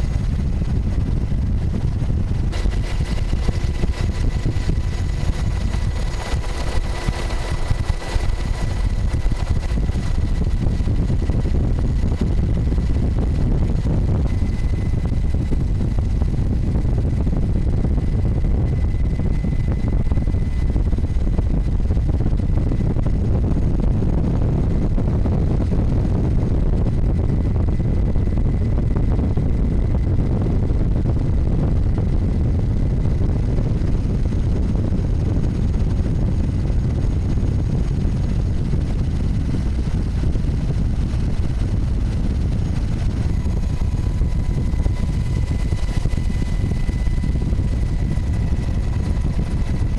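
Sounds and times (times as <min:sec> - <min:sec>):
helicopter engine and rotor rumble: 0:00.0 - 0:49.9.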